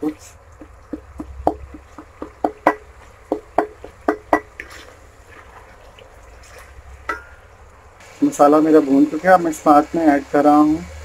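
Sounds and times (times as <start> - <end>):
masala frying: 0.0 - 11.0.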